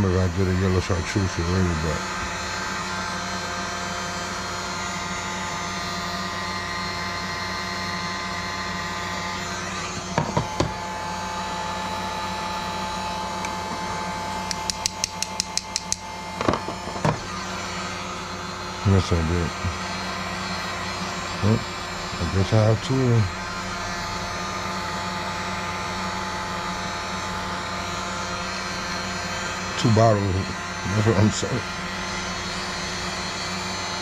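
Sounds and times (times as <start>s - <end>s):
heat gun fan whir: 0.0s - 34.0s.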